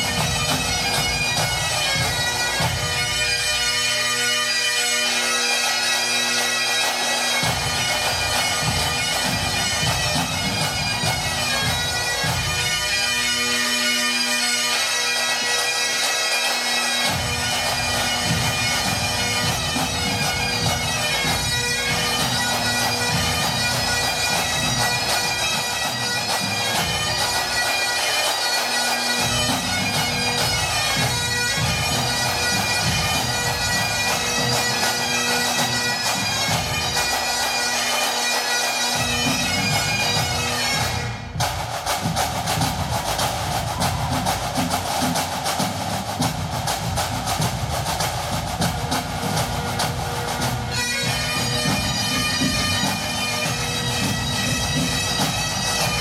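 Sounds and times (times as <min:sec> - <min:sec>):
bagpipes playing a tune: 0:00.0 - 0:56.0
pipe band drums: 0:00.0 - 0:56.0.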